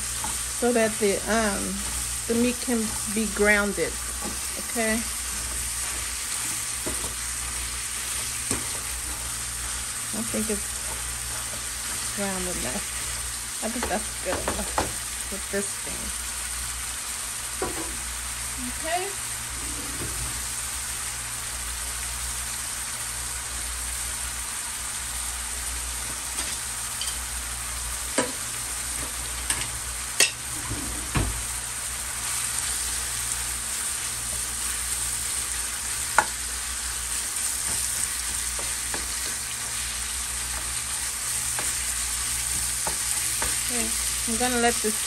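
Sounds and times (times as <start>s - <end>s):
sausage sizzling in frying pan: 0.0s - 45.0s.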